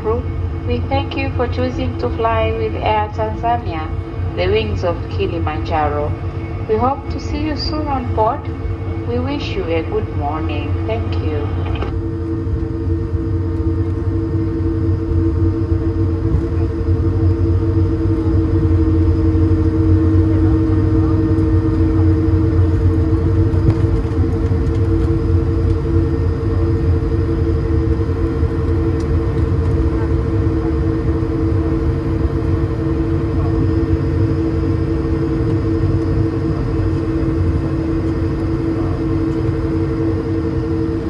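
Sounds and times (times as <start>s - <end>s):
aircraft cabin low rumble: 0.0s - 41.0s
constant humming tones: 0.0s - 41.0s.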